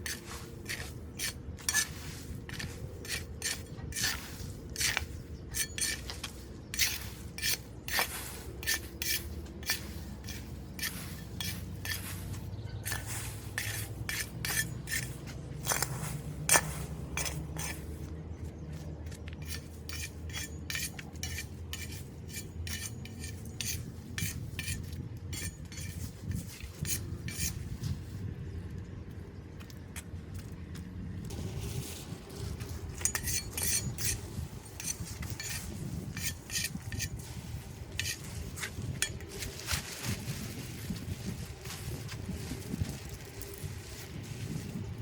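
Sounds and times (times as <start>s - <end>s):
metallic scraping and clinking: 0.0s - 18.1s, 19.1s - 27.8s, 31.3s - 44.8s
steady low rumble: 0.0s - 45.0s.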